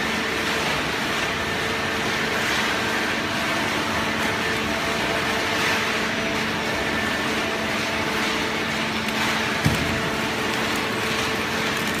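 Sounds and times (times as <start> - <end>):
conveyor humming and rumbling: 0.0 - 12.0.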